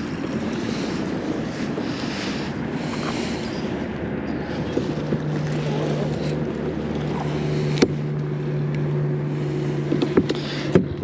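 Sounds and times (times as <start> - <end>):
steady low hum: 0.0 - 11.0
water lapping at kayak: 0.0 - 11.0.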